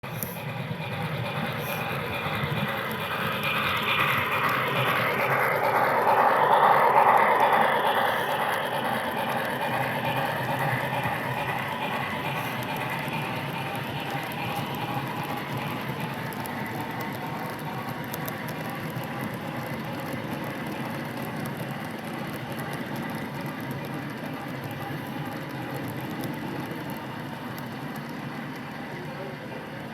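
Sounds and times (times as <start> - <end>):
model train whirring and rattling: 0.0 - 29.9.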